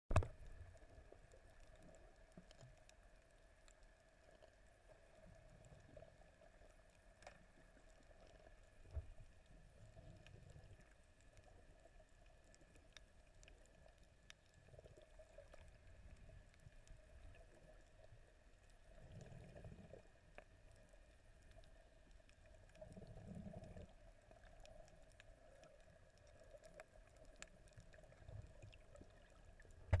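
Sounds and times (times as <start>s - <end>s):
faint steady hum: 0.1s - 30.0s
underwater water movement: 0.1s - 30.0s.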